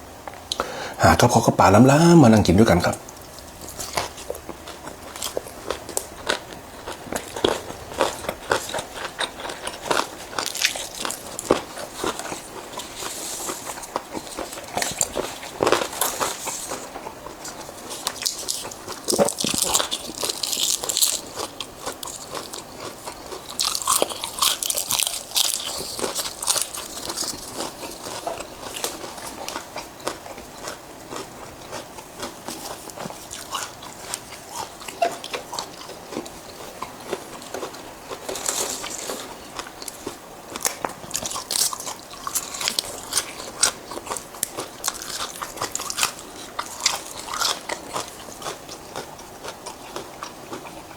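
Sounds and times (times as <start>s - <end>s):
person crunching and chewing: 1.2s - 50.9s.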